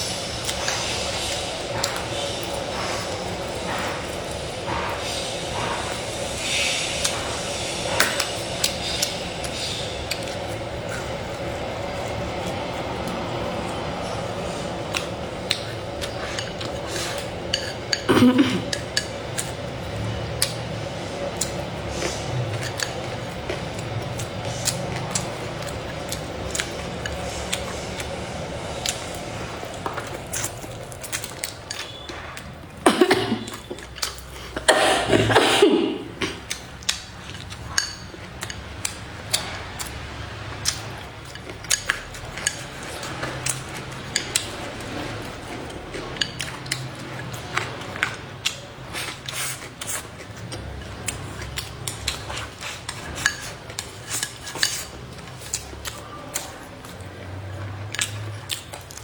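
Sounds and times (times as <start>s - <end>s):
utensils clinking on dishes: 0.0s - 59.0s.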